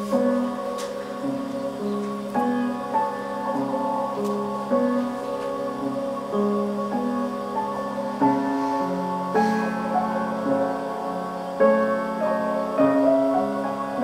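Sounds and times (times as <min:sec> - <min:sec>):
soft keyboard music: 0:00.0 - 0:14.0.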